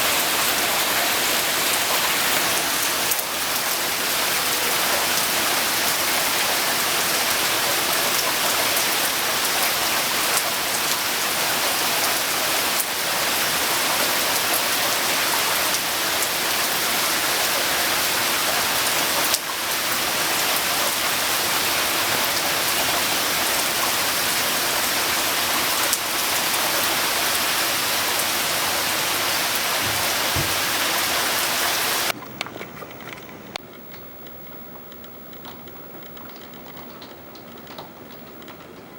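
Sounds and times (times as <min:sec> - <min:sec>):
loud rain hissing on surfaces: 0:00.0 - 0:32.2.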